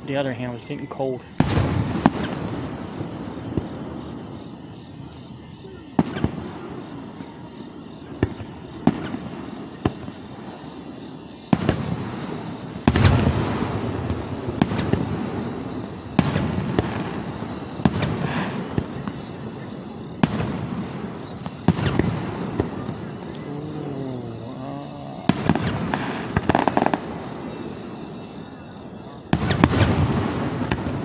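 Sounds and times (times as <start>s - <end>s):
firework rumble and crackle: 0.0s - 31.0s
fireworks bangs: 0.0s - 31.0s
heavy firework booms: 1.3s - 31.0s.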